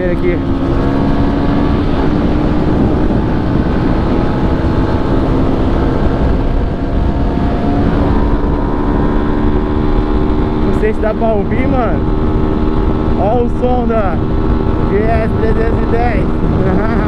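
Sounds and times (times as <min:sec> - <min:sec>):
motorcycle engine running loudly: 0:00.0 - 0:17.0.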